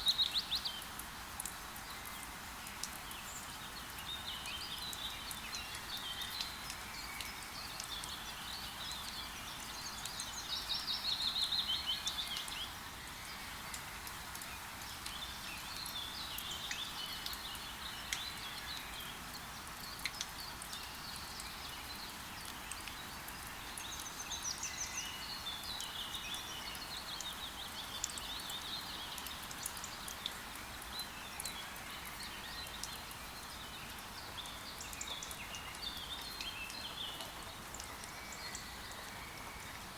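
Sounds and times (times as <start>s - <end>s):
rain hissing in a forest: 0.0s - 39.9s
water drips ticking: 0.2s - 10.4s, 11.4s - 39.9s.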